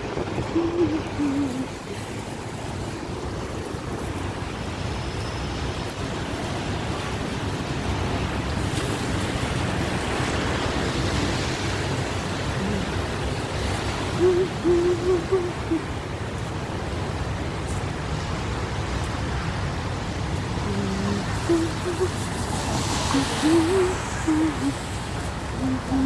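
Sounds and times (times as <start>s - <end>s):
street rumble and hiss: 0.0s - 26.0s.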